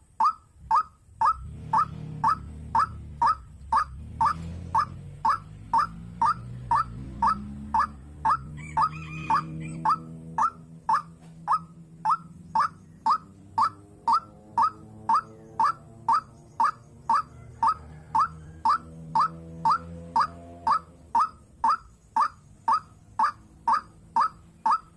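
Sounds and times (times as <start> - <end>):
waterhen calling: 0.0 - 24.9.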